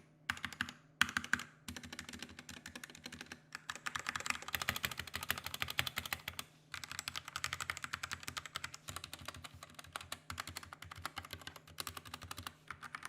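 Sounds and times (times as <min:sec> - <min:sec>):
mechanical keyboard typing: 0:00.3 - 0:13.0.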